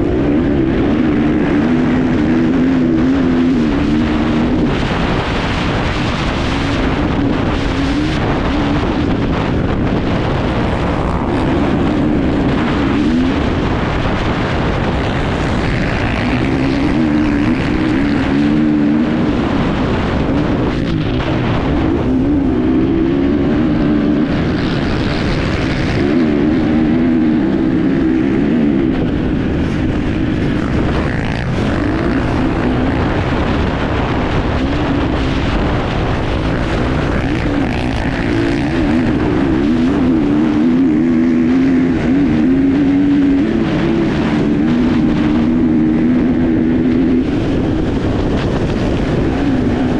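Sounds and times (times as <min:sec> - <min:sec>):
motorcycle engine revving: 0:00.0 - 0:49.9
steady rush of noise: 0:00.0 - 0:49.9.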